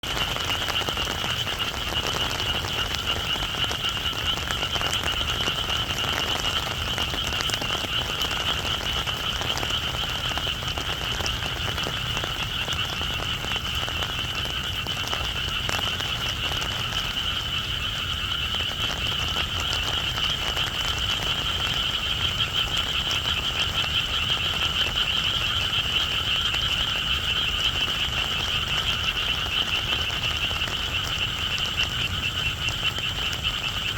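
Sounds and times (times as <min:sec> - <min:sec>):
rain falling: 0:00.0 - 0:33.9
frogs calling in chorus: 0:00.1 - 0:33.9.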